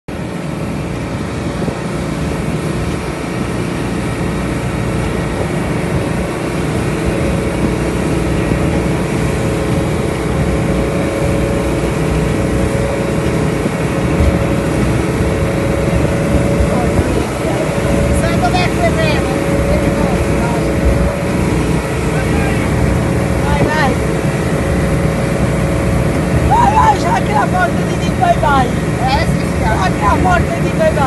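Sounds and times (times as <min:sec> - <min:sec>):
outboard engine running: 0:00.1 - 0:31.0
rush of wind and water: 0:00.1 - 0:31.0.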